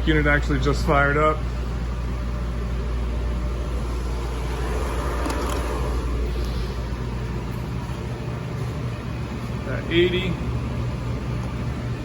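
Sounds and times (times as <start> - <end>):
hvac unit hum and rumble: 0.0 - 12.0
broad rushing air noise: 1.0 - 12.0.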